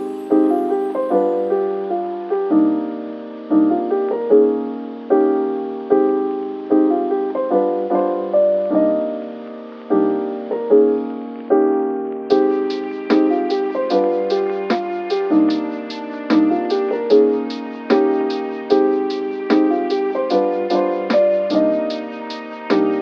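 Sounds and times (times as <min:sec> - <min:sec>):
soft lo-fi piano chords: 0:00.0 - 0:23.0.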